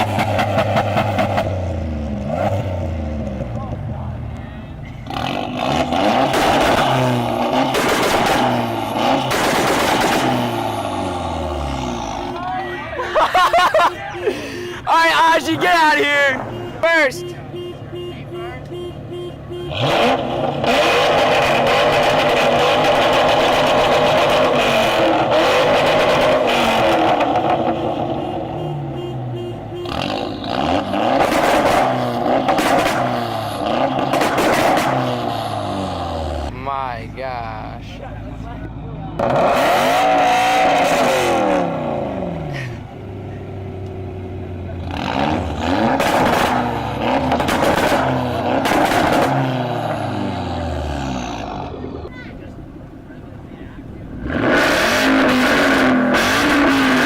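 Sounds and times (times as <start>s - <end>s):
car engine at high revs: 0.0s - 4.0s, 4.9s - 12.3s, 19.5s - 36.5s, 38.2s - 52.1s, 52.7s - 57.0s.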